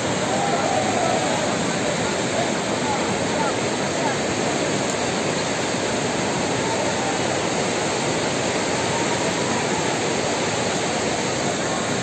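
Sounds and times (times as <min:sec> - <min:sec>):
white-water rapids rushing: 0:00.0 - 0:12.0.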